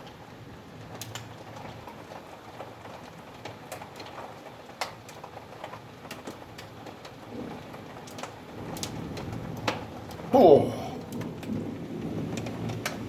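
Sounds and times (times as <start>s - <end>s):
hailstones ticking on windowsill: 0.0s - 10.3s, 11.0s - 13.0s.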